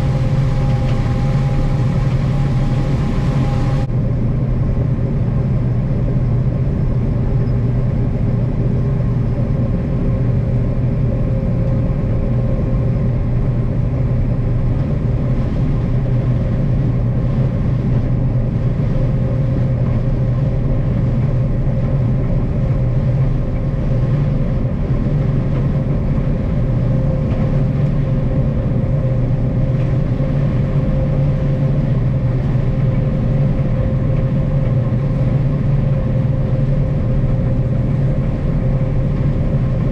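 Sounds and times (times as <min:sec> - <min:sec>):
combine harvester engine drone: 0:00.0 - 0:39.9
steady higher hum: 0:00.0 - 0:39.9.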